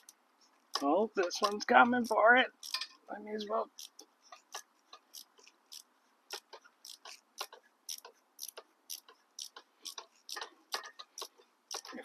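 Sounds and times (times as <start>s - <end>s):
ratchet wrench clicking: 1.4s - 2.9s, 3.7s - 11.9s.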